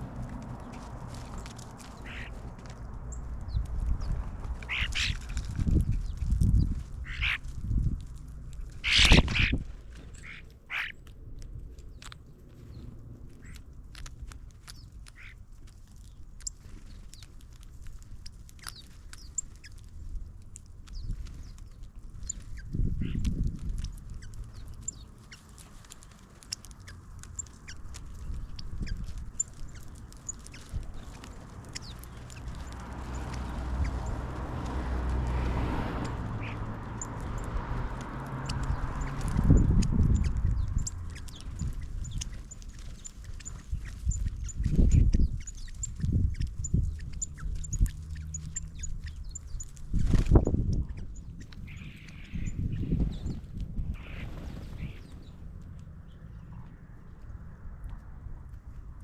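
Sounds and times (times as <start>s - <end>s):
small birds chirping: 0.0s - 58.8s.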